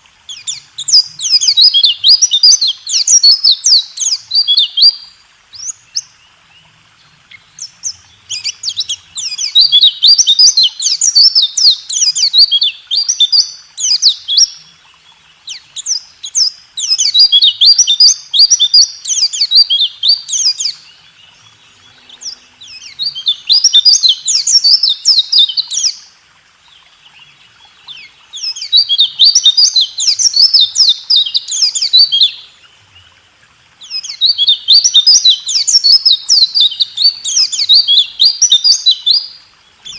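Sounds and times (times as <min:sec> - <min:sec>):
bird rapid high chirping song: 0:00.3 - 0:06.2, 0:07.3 - 0:14.7, 0:15.4 - 0:26.1, 0:27.2 - 0:32.4, 0:33.8 - 0:39.9.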